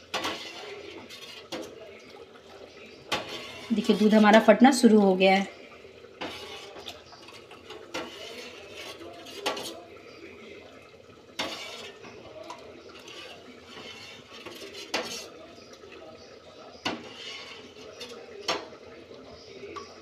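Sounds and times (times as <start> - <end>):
spoon stirring in steel pot: 0.0 - 20.0.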